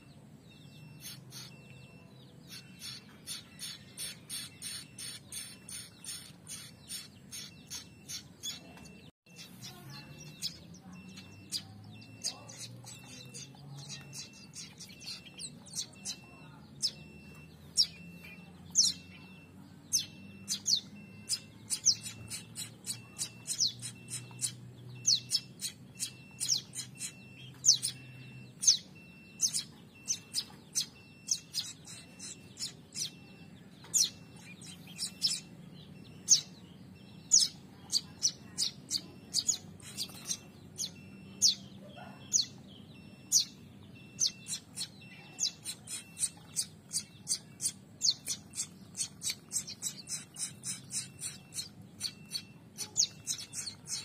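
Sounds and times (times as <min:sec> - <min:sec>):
chicks chirping: 0:00.0 - 0:54.0.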